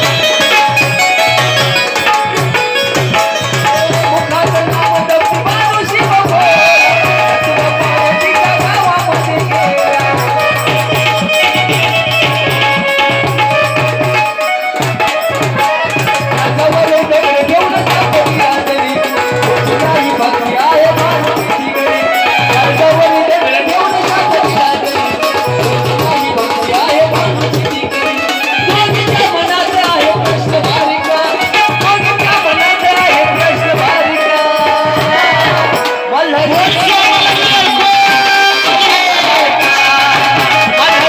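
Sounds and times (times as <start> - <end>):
hand drum beat: 0.0 - 41.0.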